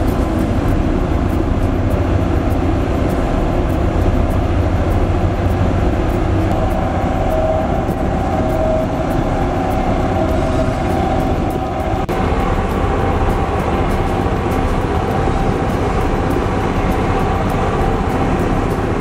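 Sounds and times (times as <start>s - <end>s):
diesel engines rumbling: 0.0s - 19.0s.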